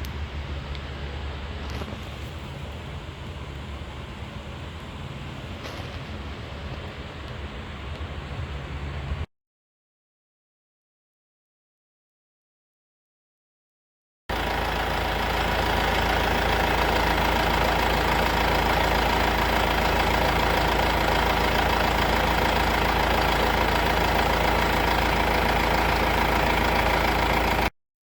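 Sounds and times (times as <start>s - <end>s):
diesel engine idling: 0.0s - 9.2s, 14.3s - 27.7s.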